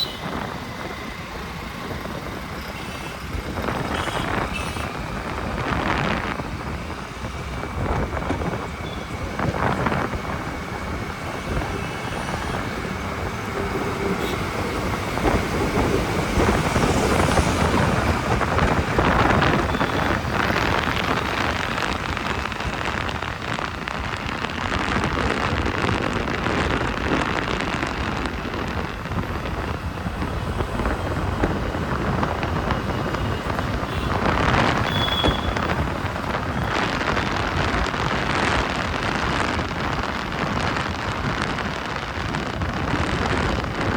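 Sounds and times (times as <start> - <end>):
road and traffic noise: 0.0 - 43.9
wind rushing over microphone: 0.0 - 43.9.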